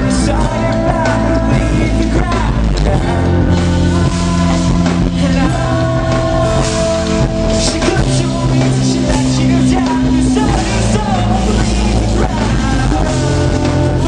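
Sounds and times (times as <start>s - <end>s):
person singing: 0.0s - 14.0s
rock band playing live: 0.0s - 14.0s.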